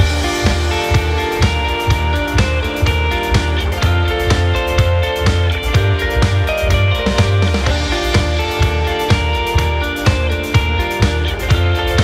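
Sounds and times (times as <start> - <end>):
music with steady beat: 0.0 - 12.0
plucked guitar: 0.0 - 12.0.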